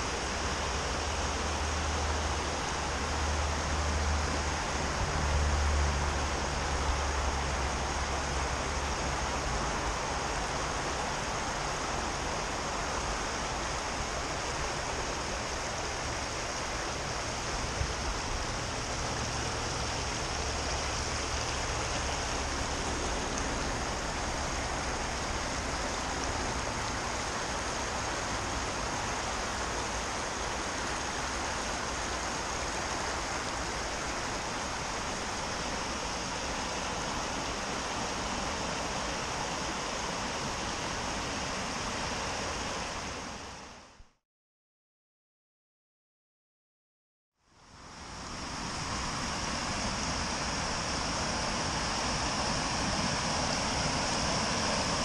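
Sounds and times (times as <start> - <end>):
water rushing over weir: 0.0 - 44.0, 47.6 - 55.0.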